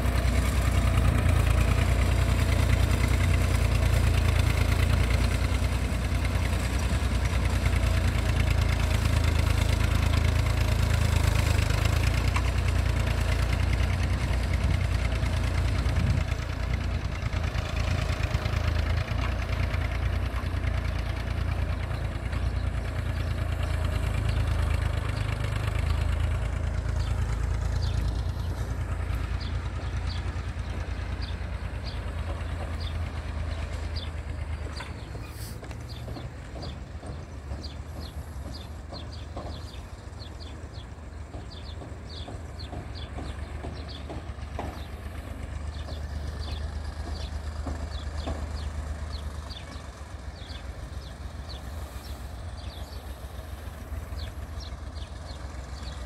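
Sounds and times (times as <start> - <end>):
tractor diesel engine drone: 0.0 - 56.0.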